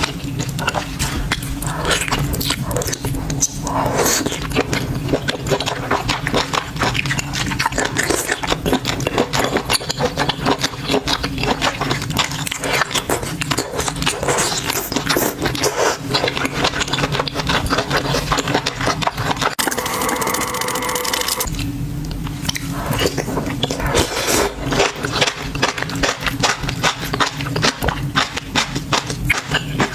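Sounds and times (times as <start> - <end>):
wet crunching chewing sounds: 0.0 - 19.8, 21.2 - 29.9.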